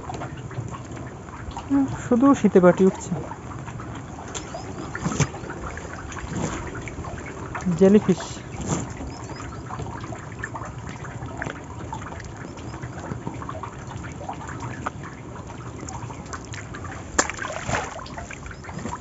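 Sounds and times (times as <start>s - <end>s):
water dripping off fishing net: 0.0s - 19.0s.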